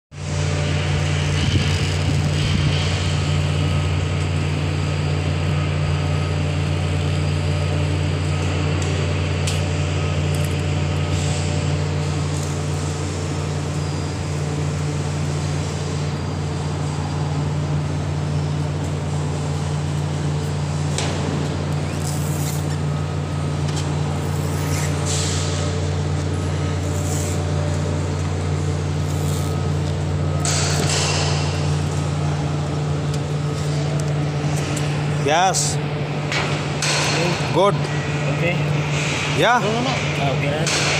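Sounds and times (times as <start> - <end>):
machinery humming: 0.1 - 40.9.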